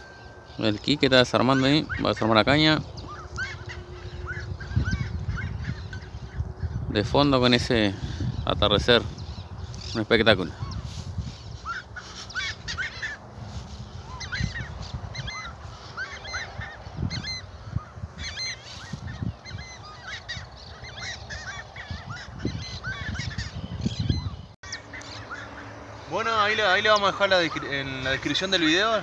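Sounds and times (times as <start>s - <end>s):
many birds calling: 0.0s - 29.0s.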